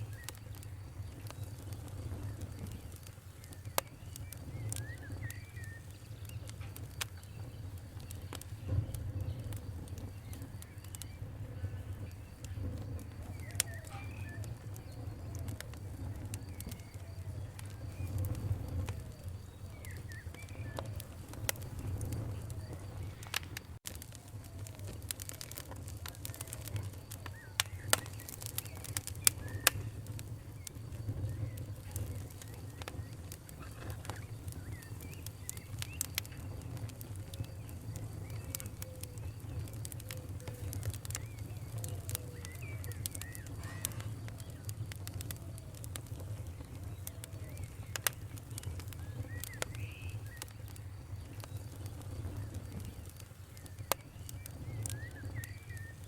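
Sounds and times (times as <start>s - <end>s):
birds chirping: 0.0s - 56.0s
campfire crackling and popping: 0.0s - 56.0s.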